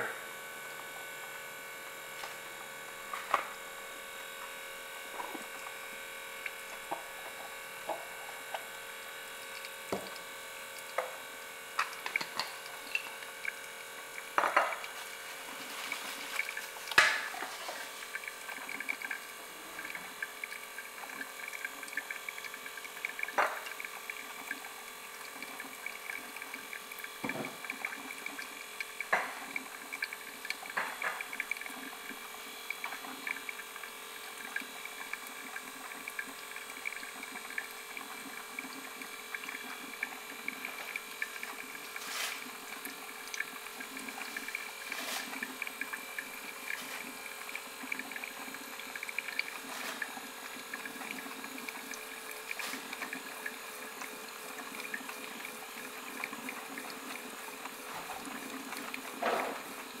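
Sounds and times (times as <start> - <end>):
electrical hum: 0.0 - 60.0
coffee dripping into carafe: 2.2 - 60.0.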